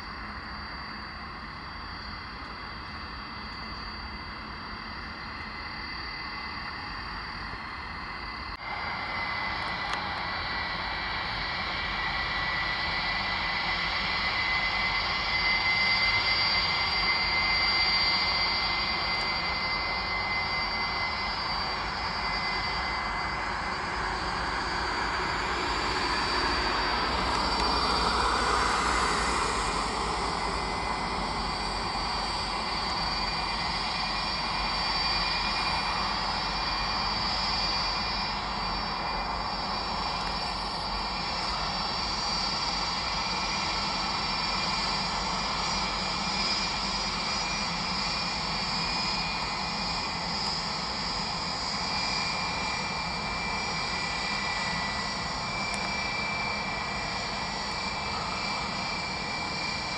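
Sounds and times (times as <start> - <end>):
jet engines whining: 0.0 - 59.9.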